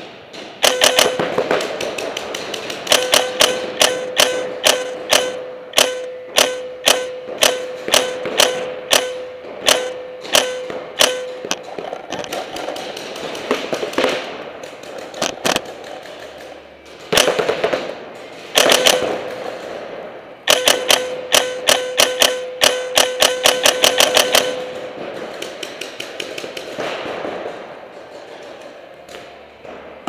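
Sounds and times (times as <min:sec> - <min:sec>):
paintball marker firing: 0:00.3 - 0:19.7, 0:20.5 - 0:29.4.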